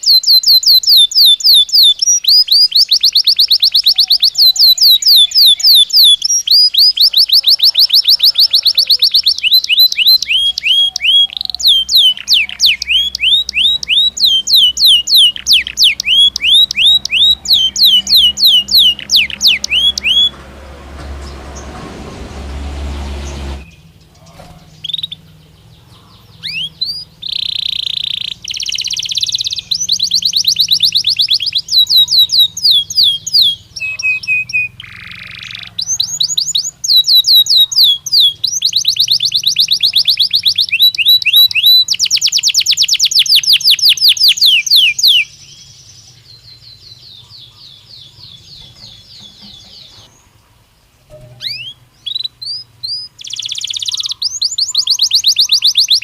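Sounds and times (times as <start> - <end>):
canary singing trills: 0.0 - 21.8, 22.4 - 56.0.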